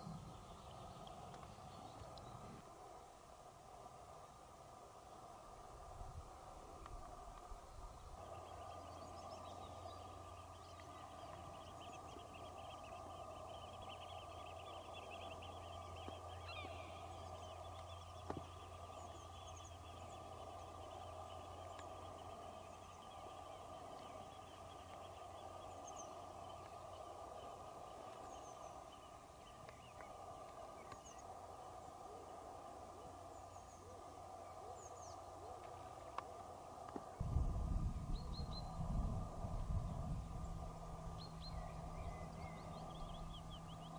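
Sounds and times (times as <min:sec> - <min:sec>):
low background hum: 0:00.0 - 0:43.9.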